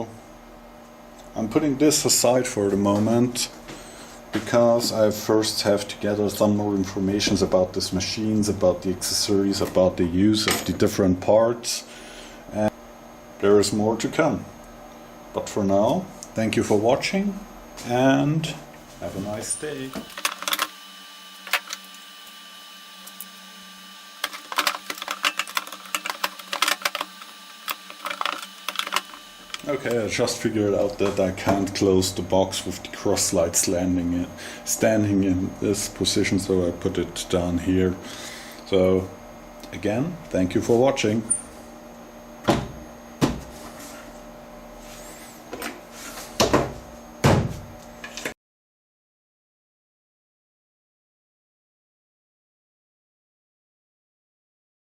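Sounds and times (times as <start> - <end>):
low steady shop hum: 0.0 - 48.4.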